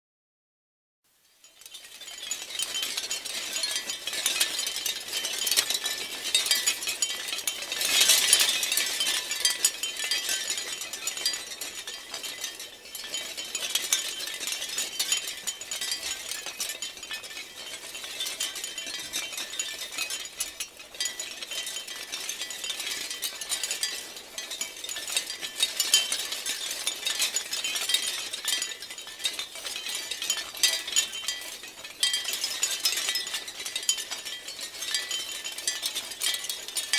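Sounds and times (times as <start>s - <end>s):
shell wind chimes clinking: 1.4s - 36.9s.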